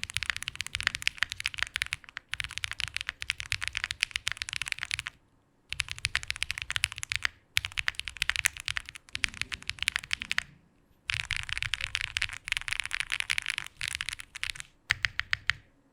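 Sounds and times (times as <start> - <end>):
mechanical keyboard typing: 0.0 - 10.5, 11.1 - 15.7.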